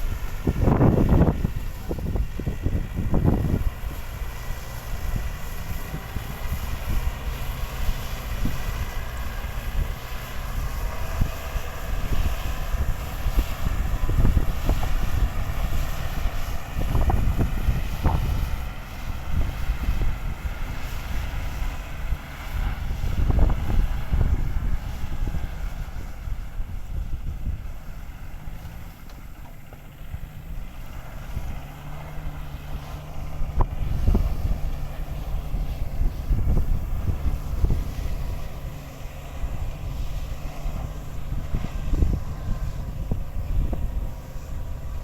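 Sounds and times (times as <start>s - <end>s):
faint droning whine: 0.0s - 45.0s
tractor engine running: 0.0s - 45.0s
wind buffeting microphone: 0.0s - 45.0s.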